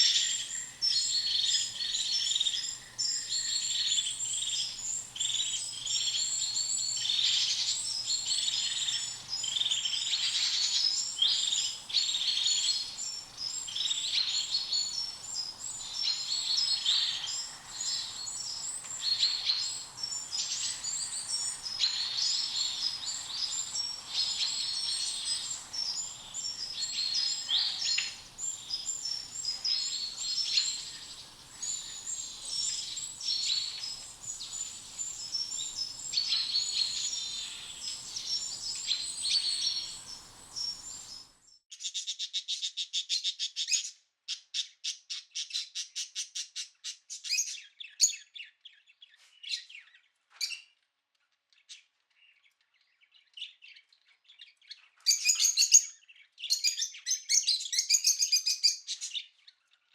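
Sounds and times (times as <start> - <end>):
many small birds chirping: 0.0 - 42.4, 51.6 - 59.9.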